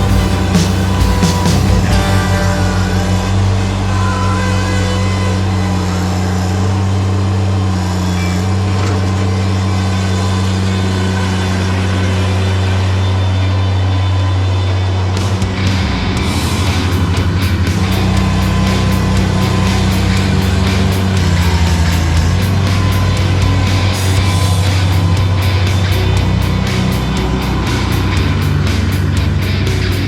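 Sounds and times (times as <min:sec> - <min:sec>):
skid steer engine running: 0:00.0 - 0:30.0.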